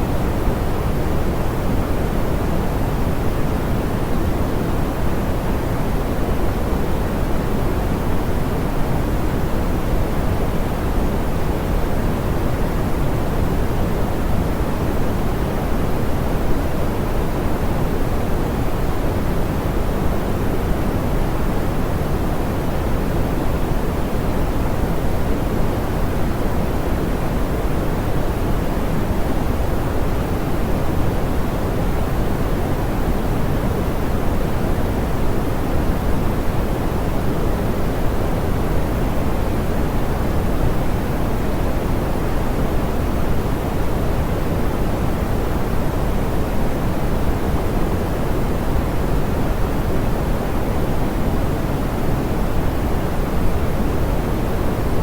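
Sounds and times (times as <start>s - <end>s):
low filtered pink noise: 0.0s - 55.0s.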